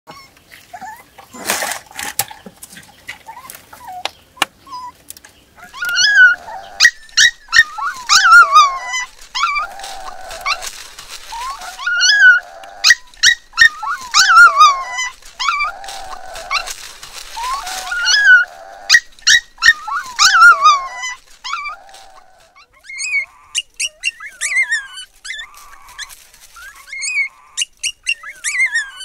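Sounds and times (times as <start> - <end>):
puppies whimpering and yelping: 0.1 - 1.3, 3.1 - 5.0, 5.6 - 29.0.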